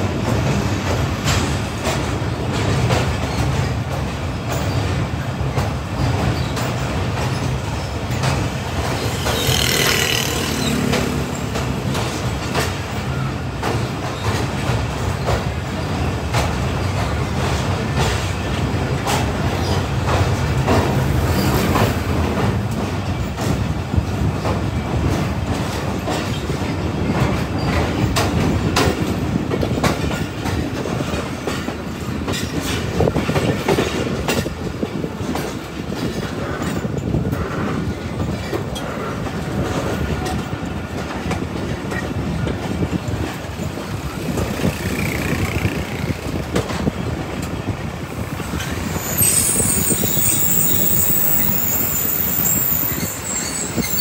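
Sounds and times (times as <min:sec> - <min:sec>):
rail joint clicks: 0:00.0 - 0:54.0
train wheels rumbling on rails: 0:00.0 - 0:54.0.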